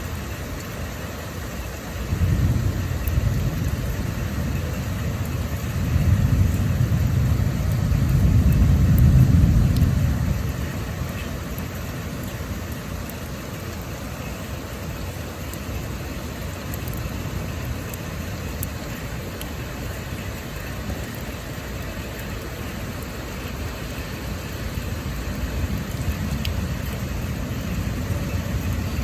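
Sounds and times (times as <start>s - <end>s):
heavy rain hiss: 0.0s - 29.0s
storm wind gusting: 1.8s - 29.0s.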